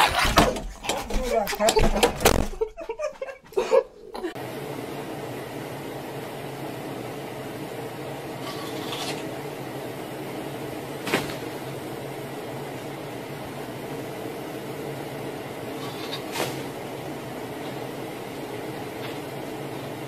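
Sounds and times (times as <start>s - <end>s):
low room noise hum: 0.0s - 20.0s.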